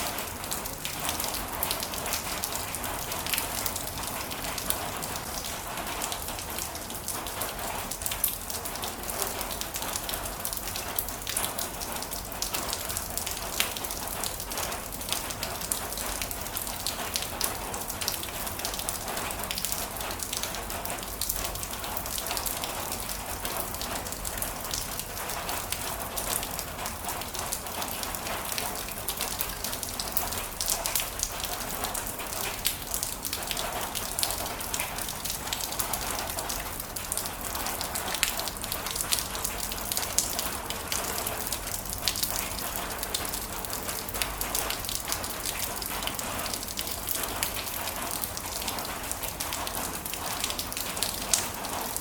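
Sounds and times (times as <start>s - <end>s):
raindrops tapping close by: 0.0s - 52.0s.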